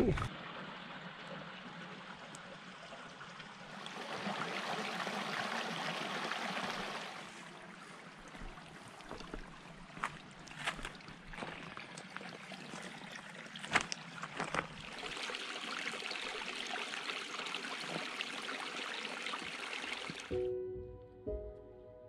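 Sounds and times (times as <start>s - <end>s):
creek trickling over stones: 0.3s - 20.4s.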